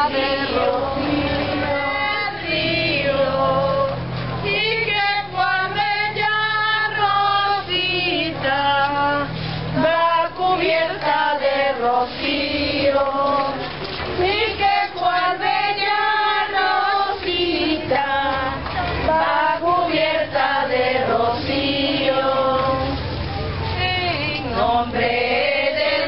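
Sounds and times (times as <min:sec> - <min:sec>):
women and children singing: 0:00.0 - 0:26.0.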